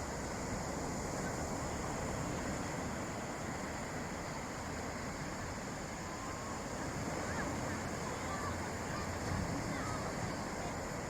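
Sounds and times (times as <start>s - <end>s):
calm sea waves washing: 0.0s - 11.0s.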